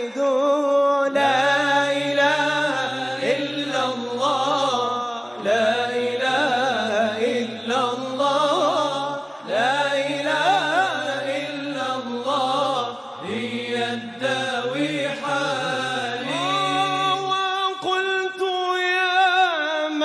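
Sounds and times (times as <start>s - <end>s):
solo voice chanting: 0.0s - 20.0s.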